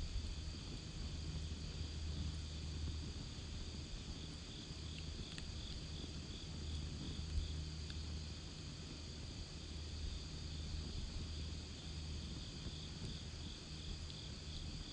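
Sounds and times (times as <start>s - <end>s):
campfire crackling: 0.0s - 14.9s
insect chirping: 0.0s - 14.9s.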